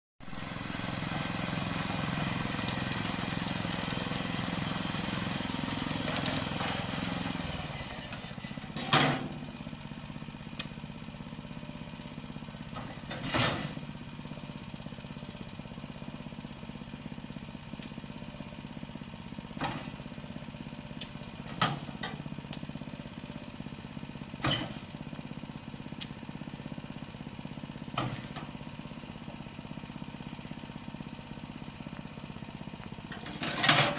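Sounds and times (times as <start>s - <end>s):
small engine running: 0.2s - 33.9s.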